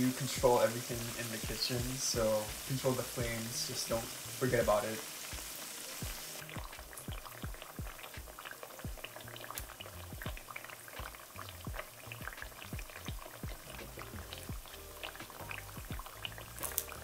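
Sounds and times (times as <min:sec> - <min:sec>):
food frying in hot oil: 0:00.0 - 0:17.0
oil crackling and popping: 0:00.0 - 0:17.0.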